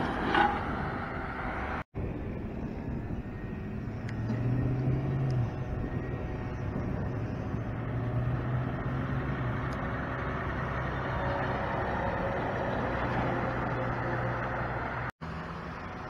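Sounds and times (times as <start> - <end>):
passing traffic: 0.0 - 16.0
truck driving past: 0.0 - 16.0.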